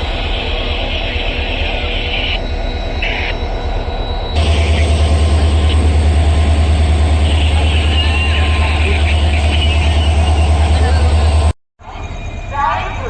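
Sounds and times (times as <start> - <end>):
locomotive engine rumble: 0.0 - 13.0.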